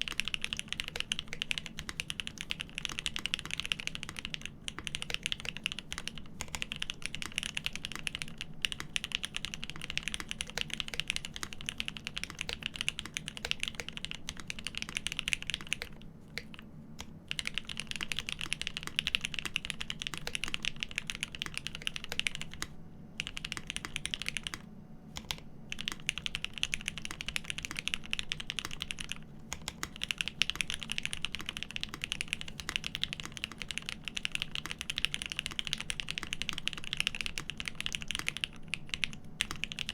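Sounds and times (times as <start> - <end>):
fast mechanical keyboard typing: 0.0 - 24.6, 25.2 - 39.9.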